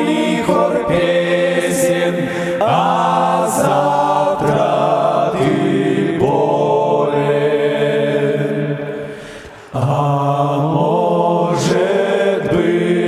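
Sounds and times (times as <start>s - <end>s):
men singing in harmony: 0.0s - 9.1s, 9.7s - 13.0s.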